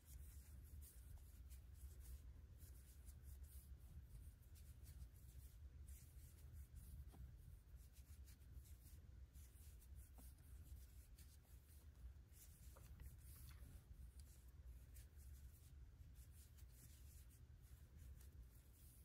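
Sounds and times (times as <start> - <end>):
low room hum: 0.0 - 19.0
yarn rustling through crochet stitches: 0.0 - 19.0.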